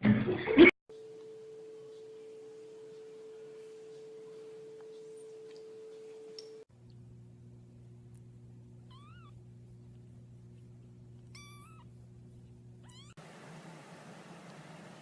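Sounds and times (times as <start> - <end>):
steady low hum: 0.9 - 15.0.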